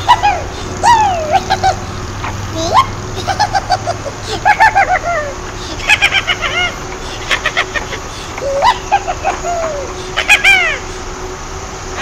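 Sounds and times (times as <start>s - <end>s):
birds chirping: 0.0s - 12.0s
faint steady hum: 0.0s - 12.0s.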